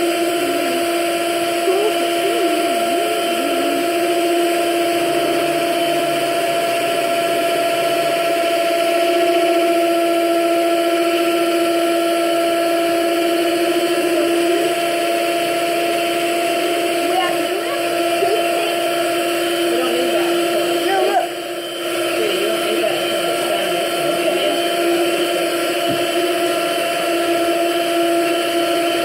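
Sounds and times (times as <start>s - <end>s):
electric mixer whine: 0.0s - 29.0s.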